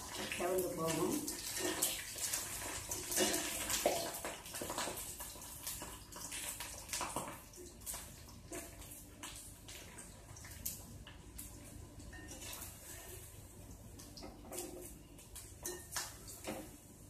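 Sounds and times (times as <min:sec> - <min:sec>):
dough deep-frying in sizzling oil: 0:00.0 - 0:17.0.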